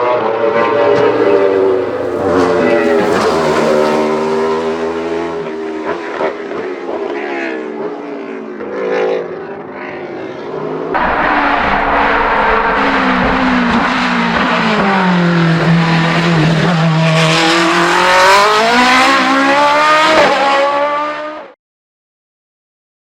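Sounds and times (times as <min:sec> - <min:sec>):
race car engine revving: 0:00.1 - 0:07.9, 0:08.6 - 0:21.5.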